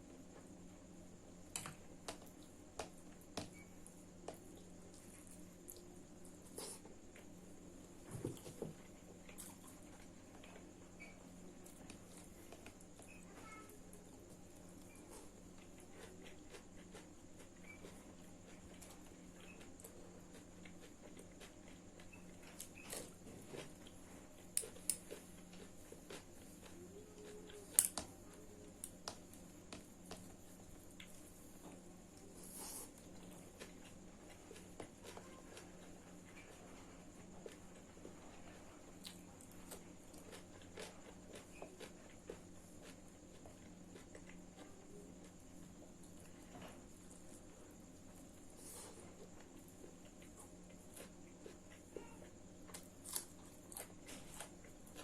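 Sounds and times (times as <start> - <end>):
background hum: 0.0 - 55.0
faint chewing: 1.5 - 55.0.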